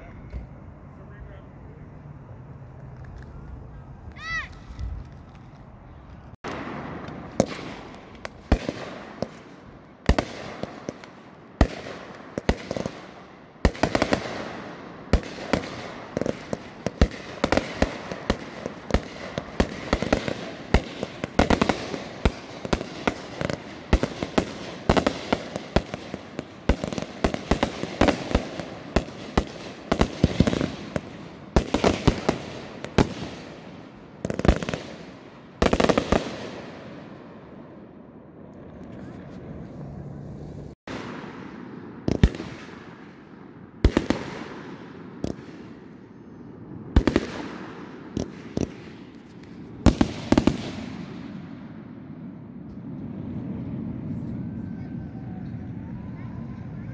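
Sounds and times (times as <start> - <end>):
fireworks bangs and crackling: 2.7 - 56.9.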